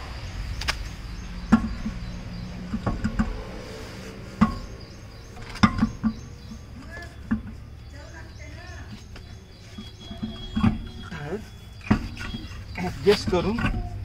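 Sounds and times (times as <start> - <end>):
steel wheel knocking and clunking: 1.2 - 3.6, 4.3 - 14.0.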